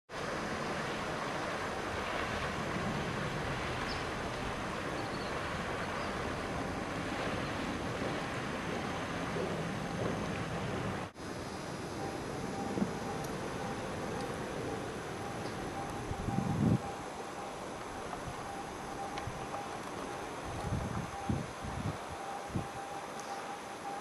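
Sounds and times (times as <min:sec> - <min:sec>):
water rushing: 0:00.1 - 0:24.0
wind on microphone: 0:01.0 - 0:22.9.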